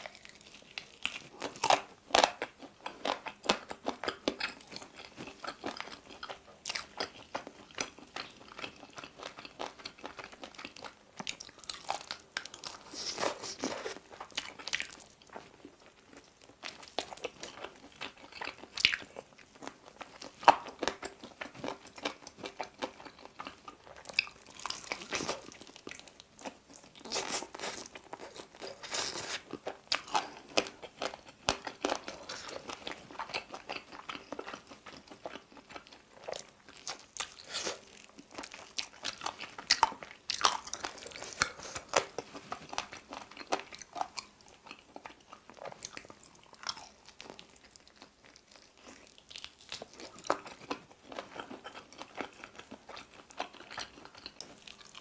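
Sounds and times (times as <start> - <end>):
crunching and chewing chicken: 0.0 - 55.0.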